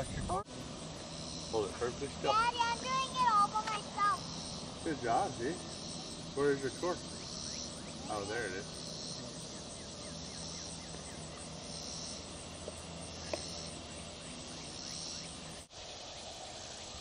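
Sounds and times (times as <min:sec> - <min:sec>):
insects buzzing: 0:00.0 - 0:17.0
steady low hum: 0:00.0 - 0:17.0
faint chirps: 0:00.9 - 0:17.0.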